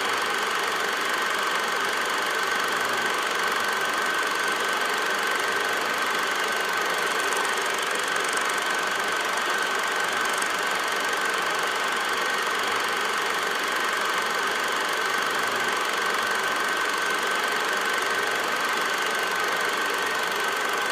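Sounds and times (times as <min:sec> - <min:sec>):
projector whirring with high whine: 0:00.0 - 0:20.9.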